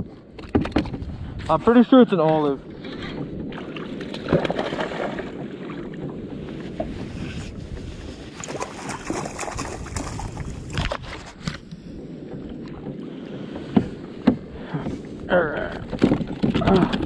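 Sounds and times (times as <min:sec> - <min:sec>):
water against kayak hull: 0:00.0 - 0:17.0
wind on microphone: 0:00.0 - 0:17.0.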